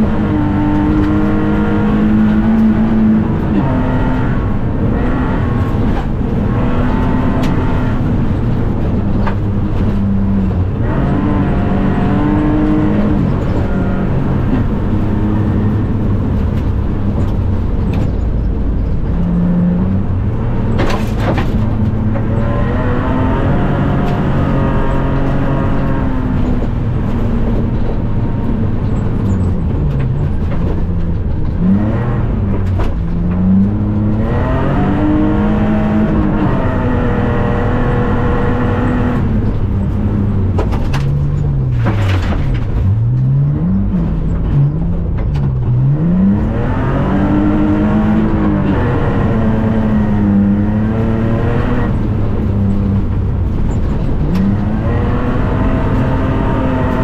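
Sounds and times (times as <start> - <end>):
car engine revving: 0.0 - 57.0
tyre and road noise: 0.0 - 57.0.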